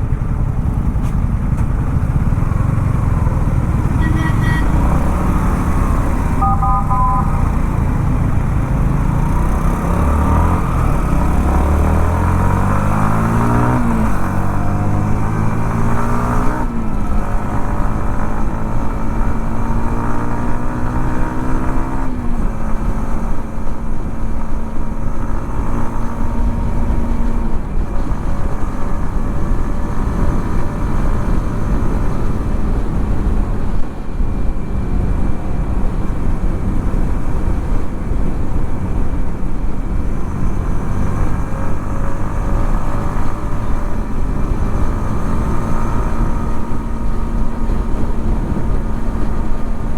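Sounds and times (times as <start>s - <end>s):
motorcycle engine accelerating: 0.0s - 49.9s
road noise: 0.0s - 49.9s.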